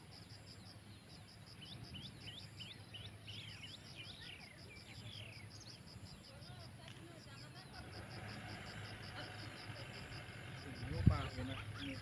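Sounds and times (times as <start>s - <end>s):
faint insect chirp: 0.0s - 12.0s.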